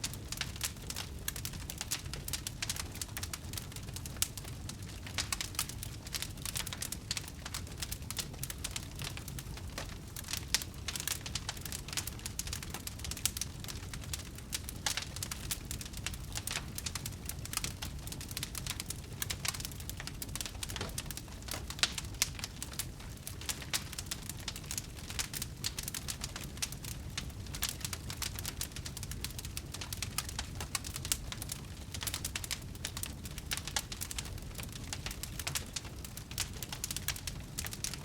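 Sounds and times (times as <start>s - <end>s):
low steady fire rumble: 0.0s - 38.0s
wood fire crackling: 0.0s - 38.0s.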